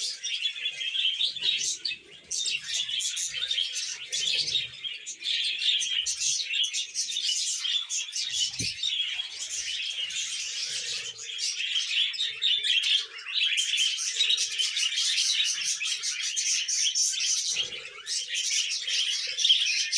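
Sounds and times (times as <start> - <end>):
budgerigars chattering and chirping: 0.0 - 19.9.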